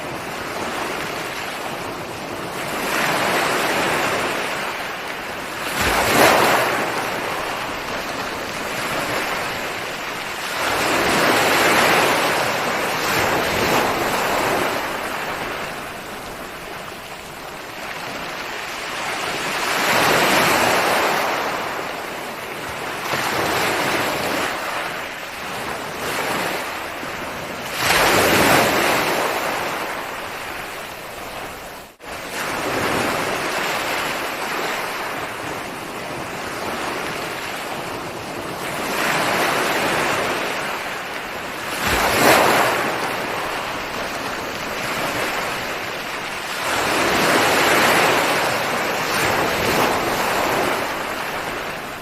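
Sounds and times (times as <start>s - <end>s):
ocean waves breaking on shore: 0.0s - 52.0s.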